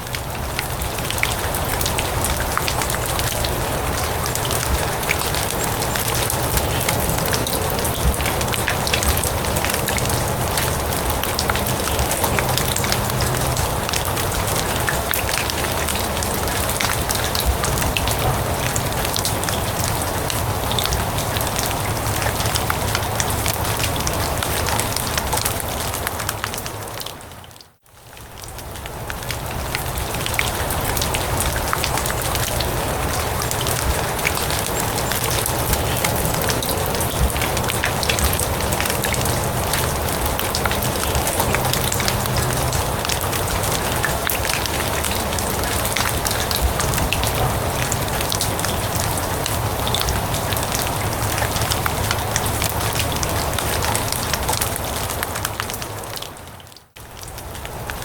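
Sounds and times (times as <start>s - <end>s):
rain falling on grass: 0.0s - 58.0s.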